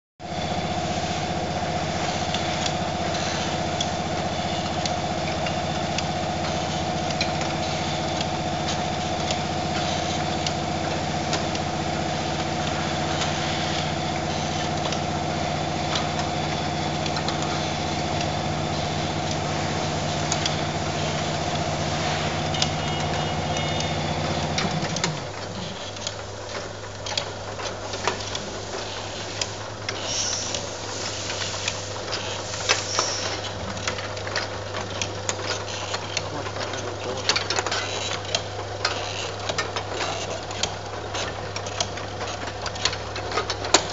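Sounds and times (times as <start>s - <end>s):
steady motor hum: 0.2s - 43.9s.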